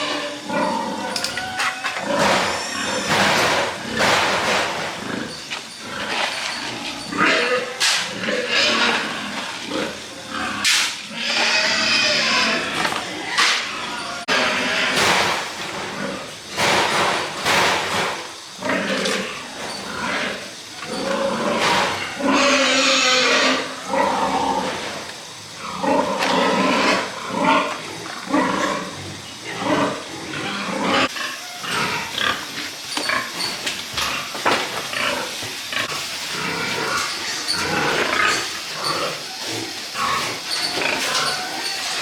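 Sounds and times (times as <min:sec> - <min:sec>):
pigs grunting and squealing: 0:00.0 - 0:42.0.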